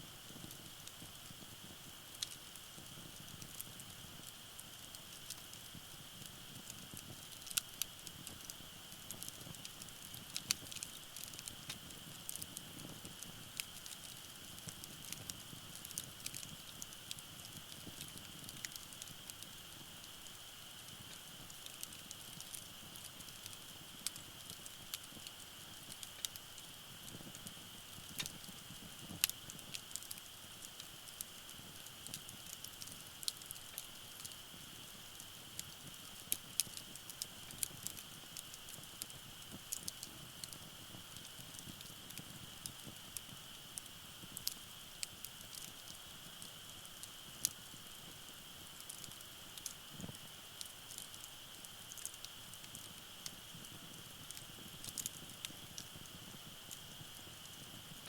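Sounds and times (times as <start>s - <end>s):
faint high hiss: 0.0s - 58.0s
wood fire crackling: 0.0s - 58.0s
sharp pops of fire: 0.3s - 58.0s.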